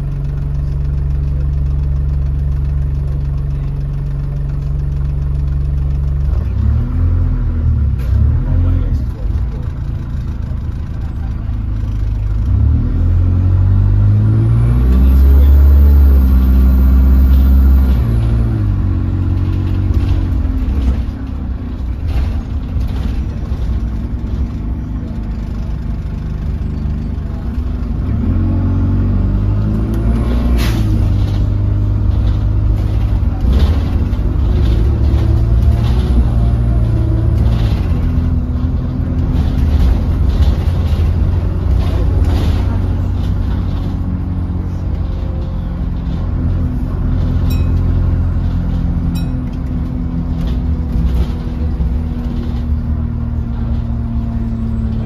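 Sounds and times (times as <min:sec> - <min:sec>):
bus engine accelerating: 0:00.0 - 0:55.0.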